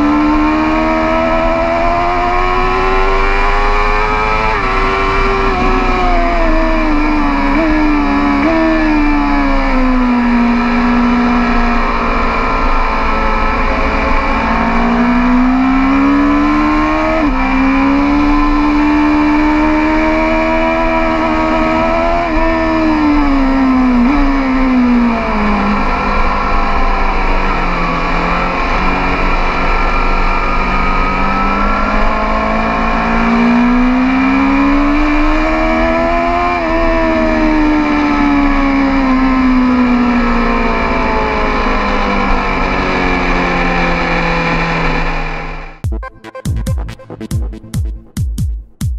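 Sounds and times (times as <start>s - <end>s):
motorcycle engine revving hard: 0.0s - 45.8s.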